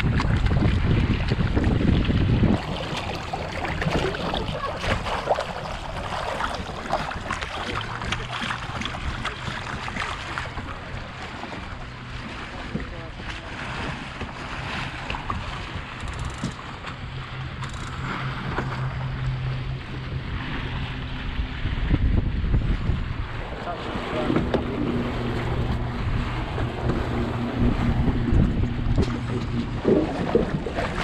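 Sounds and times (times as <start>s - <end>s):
low steady hum: 0.0s - 31.0s
water splashing along wooden hull: 0.0s - 31.0s
wind buffeting microphone: 0.0s - 31.0s.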